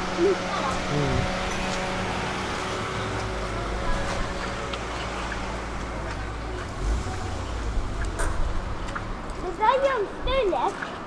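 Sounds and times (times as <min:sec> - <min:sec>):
street low rumble: 0:00.0 - 0:11.0
footsteps on pavement: 0:00.7 - 0:11.0.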